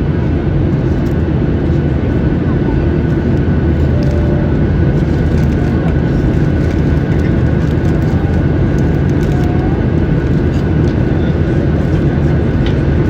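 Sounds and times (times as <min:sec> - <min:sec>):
faint steady whine: 0:00.0 - 0:13.0
jet engines rumbling in cabin: 0:00.0 - 0:13.0.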